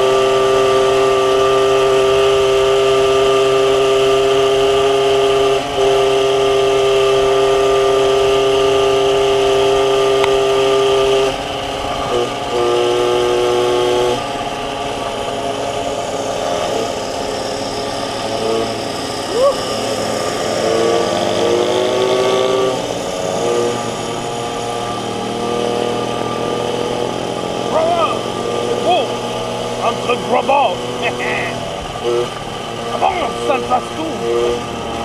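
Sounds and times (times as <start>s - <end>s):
two-stroke moped engine running: 0.0s - 35.0s.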